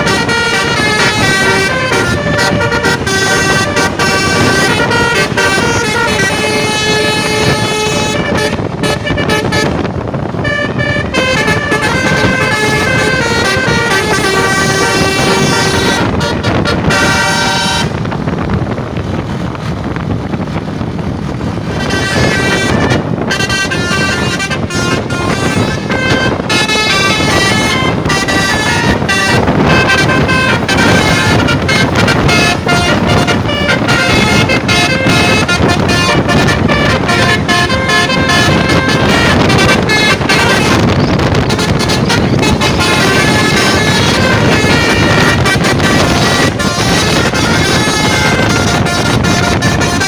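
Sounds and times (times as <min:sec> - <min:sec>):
musical bus horn playing a tune: 0:00.0 - 0:19.4, 0:20.3 - 0:50.0
steady rumbling noise: 0:00.0 - 0:50.0.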